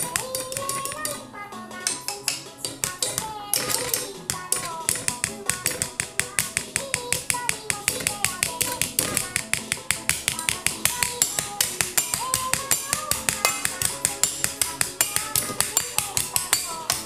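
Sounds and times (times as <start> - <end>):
melody over tapping beat: 0.0 - 17.0.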